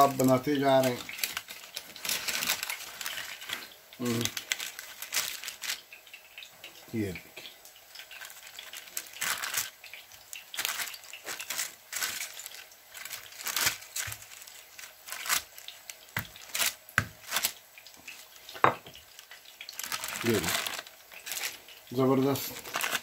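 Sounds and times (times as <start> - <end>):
baking paper crinkling: 0.0 - 6.2, 7.9 - 23.0.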